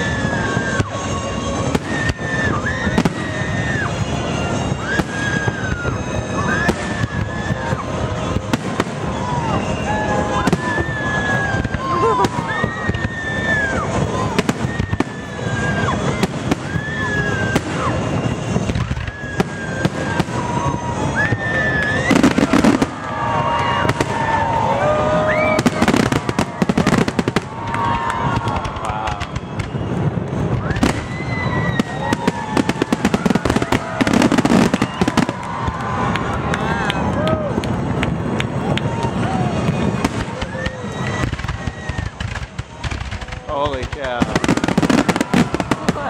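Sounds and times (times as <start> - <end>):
fireworks bangs: 0.0 - 46.0
fireworks rumble: 0.0 - 46.0.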